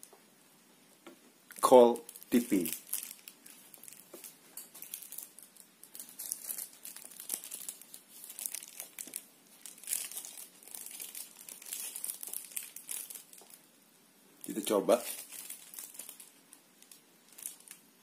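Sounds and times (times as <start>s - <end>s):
crinkling and rustling: 1.0s - 13.7s, 14.4s - 17.9s.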